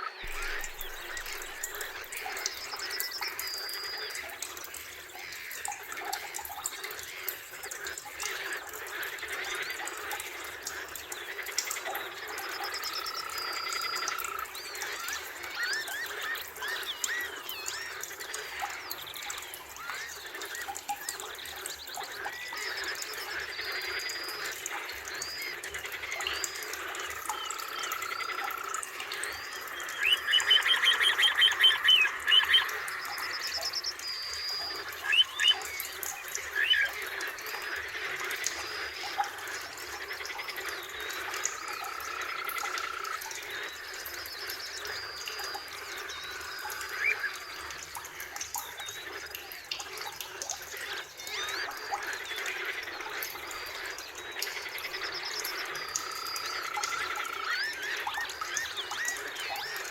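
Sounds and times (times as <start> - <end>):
background bird chorus: 0.0 - 59.9.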